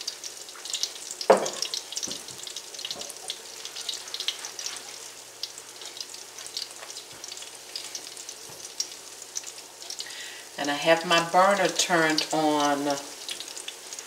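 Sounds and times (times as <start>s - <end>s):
patties sizzling in oil: 0.0s - 14.0s.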